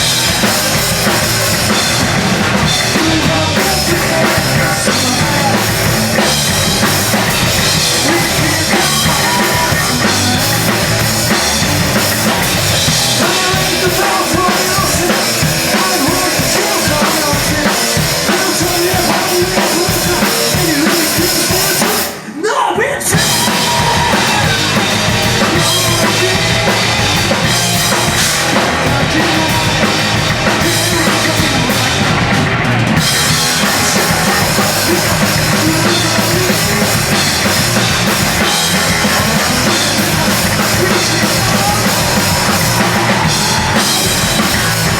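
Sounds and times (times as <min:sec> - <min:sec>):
drum kit: 0:00.0 - 0:22.4, 0:23.1 - 0:44.9
rock band playing loud: 0:00.0 - 0:44.9.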